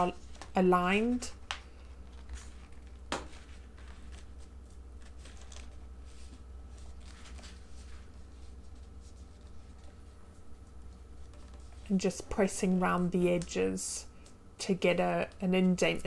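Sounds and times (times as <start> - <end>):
wallpaper rustling: 0.0 - 13.8.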